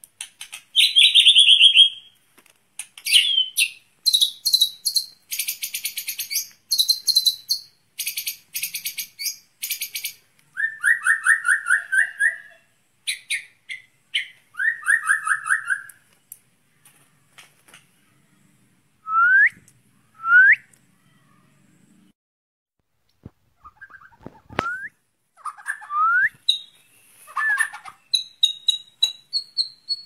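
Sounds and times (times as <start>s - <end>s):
songbird singing: 0.0s - 2.2s, 2.8s - 22.2s, 23.6s - 30.0s.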